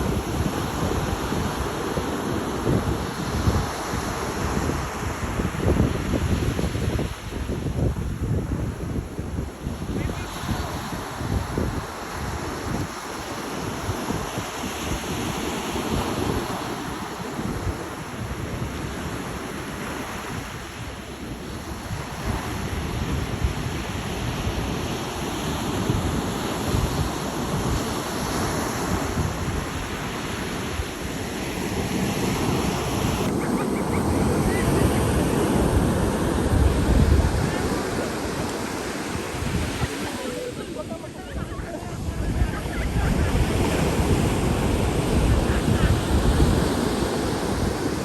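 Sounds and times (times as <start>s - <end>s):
ocean surf washing in: 0.0s - 48.0s
wind buffeting microphone: 0.0s - 48.0s.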